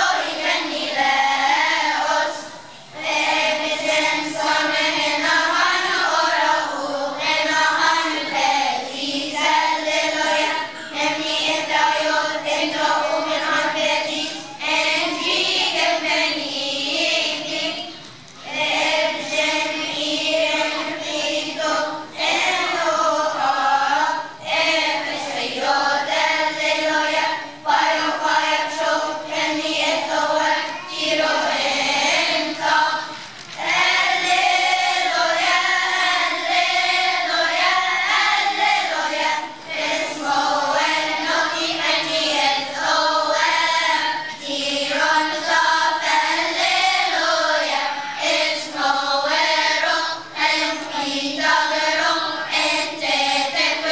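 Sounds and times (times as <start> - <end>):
children's choir singing: 0.0 - 53.9.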